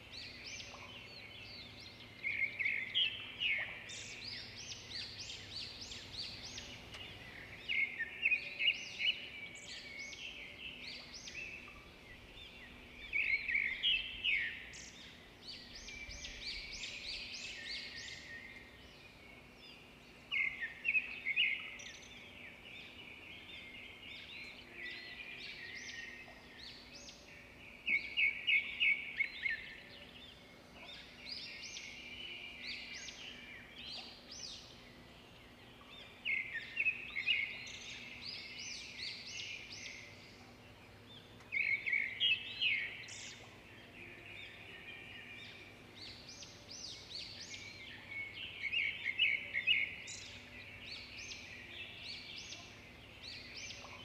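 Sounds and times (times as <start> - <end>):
birds chirping: 0.2 - 54.0.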